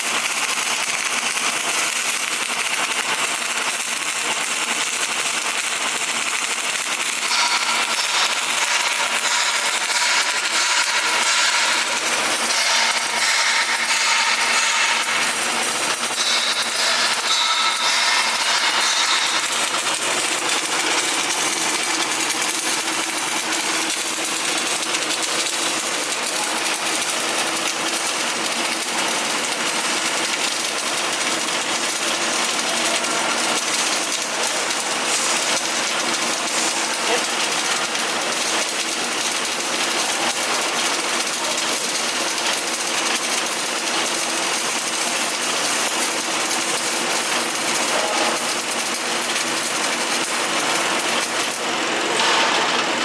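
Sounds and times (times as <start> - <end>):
welding arc crackling: 0.0 - 53.0.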